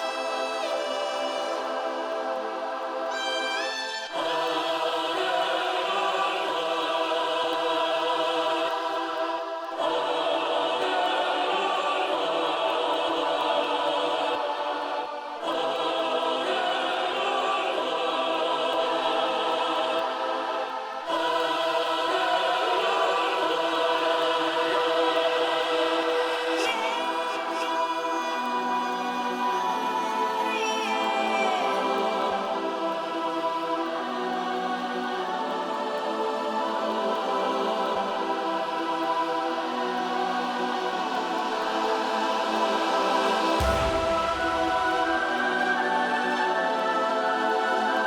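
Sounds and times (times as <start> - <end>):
ambient music of sustained chords: 0.0 - 48.0.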